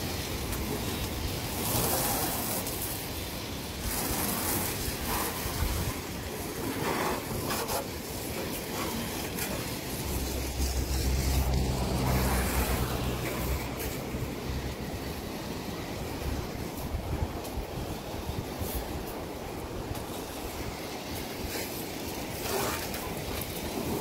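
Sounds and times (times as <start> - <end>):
hose water spraying onto gravel: 0.0 - 24.0
water splashes: 0.0 - 24.0.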